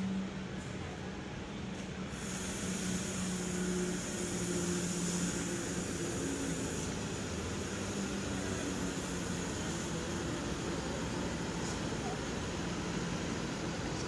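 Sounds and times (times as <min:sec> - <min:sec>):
bus diesel engine passing: 0:00.0 - 0:14.0
high steady hiss: 0:01.3 - 0:14.0.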